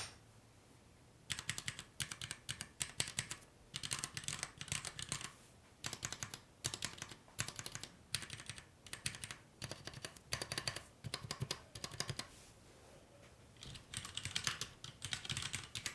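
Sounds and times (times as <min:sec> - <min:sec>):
mechanical keyboard typing: 0:01.3 - 0:12.3, 0:13.6 - 0:15.9.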